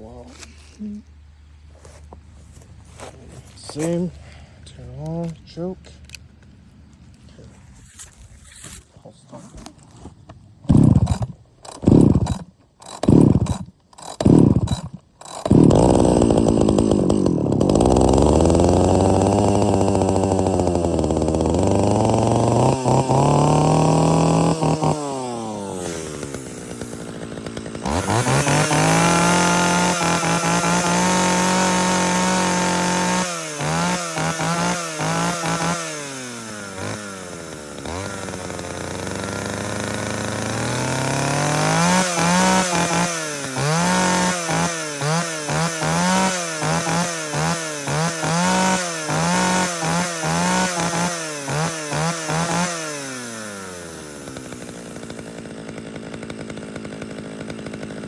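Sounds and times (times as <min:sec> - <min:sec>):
two-stroke chainsaw revving: 0:10.7 - 0:58.0.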